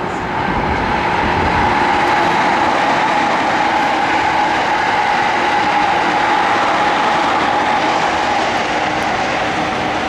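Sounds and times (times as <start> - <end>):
train wheels rushing on rails: 0.0 - 10.0.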